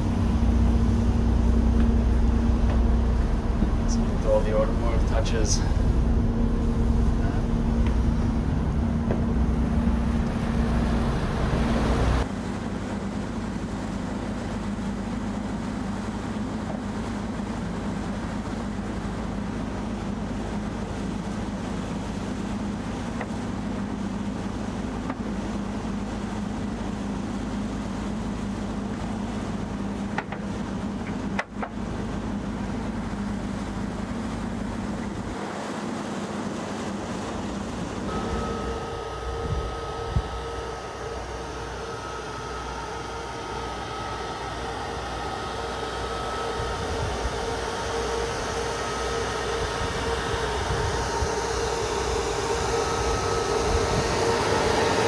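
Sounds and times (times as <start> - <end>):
motor yacht engine hum: 0.0 - 55.0
wake water rushing: 0.0 - 55.0
wind: 0.0 - 55.0.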